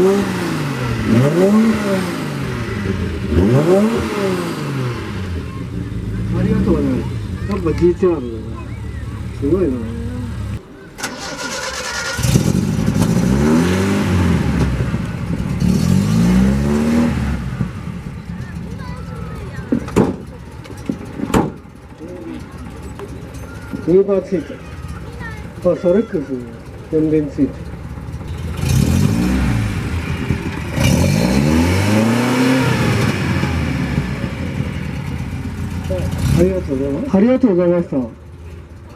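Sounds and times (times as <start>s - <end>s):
car engine starting and revving: 0.0s - 38.9s.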